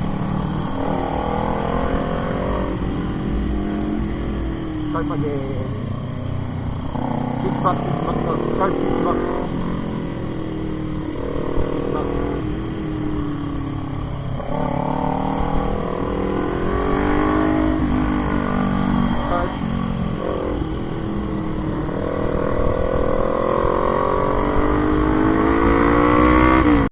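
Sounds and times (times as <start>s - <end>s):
motorcycle engine shifting gears: 0.0s - 26.9s.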